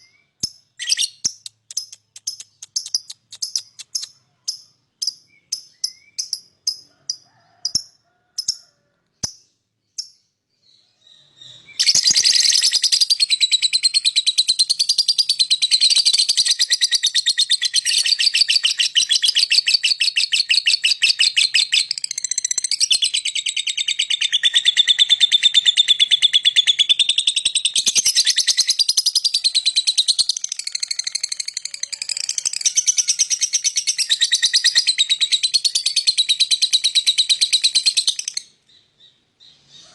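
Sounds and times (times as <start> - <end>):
bird high chirps: 0.0 - 8.6, 9.2 - 39.9
bird rapid chattering song: 0.0 - 8.6, 9.2 - 39.9.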